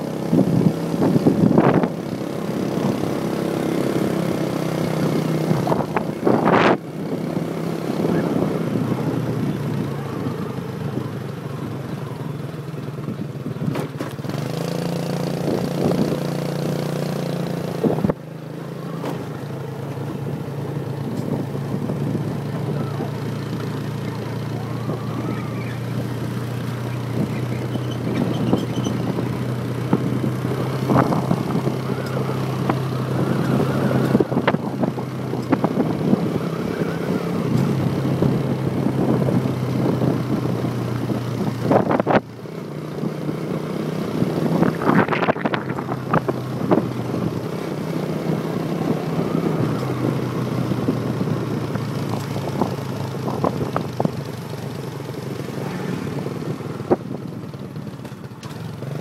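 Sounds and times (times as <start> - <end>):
motorbike engine running: 0.0 - 59.0
road and wind noise: 0.0 - 59.0.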